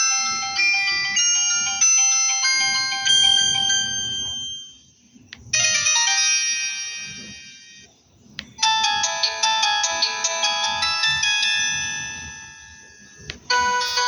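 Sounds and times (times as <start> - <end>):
electronic ringtone melody: 0.0 - 7.9, 8.6 - 14.0.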